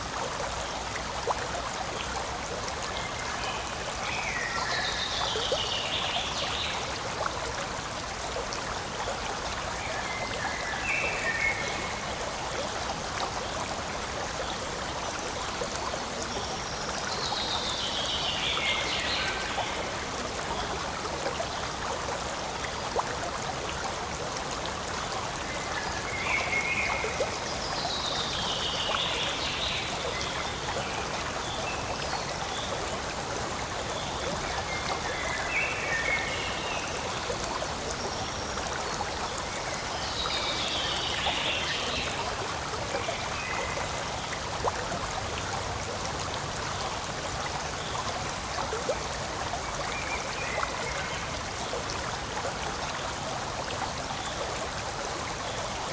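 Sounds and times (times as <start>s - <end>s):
stream trickling and bubbling: 0.0s - 55.9s.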